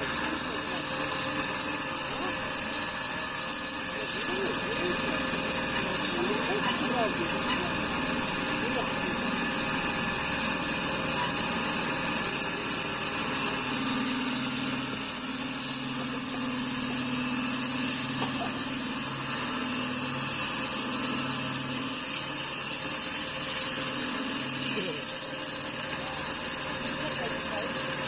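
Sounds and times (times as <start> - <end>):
low droning motor: 0.0 - 27.7
loud high hiss of sawmill: 0.0 - 28.0.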